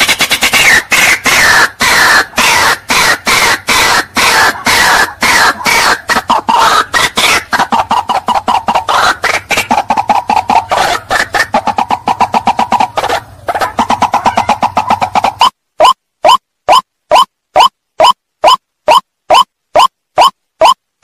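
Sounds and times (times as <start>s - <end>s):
waterhen calling harsh croaks: 0.2s - 20.8s.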